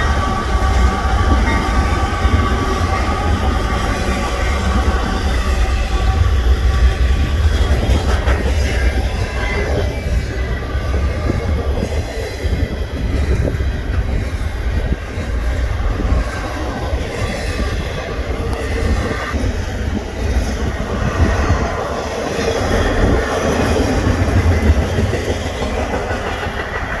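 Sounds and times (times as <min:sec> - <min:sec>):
train wheels rumbling on rails: 0:00.0 - 0:27.0
wheels clacking over rail joints: 0:00.0 - 0:27.0.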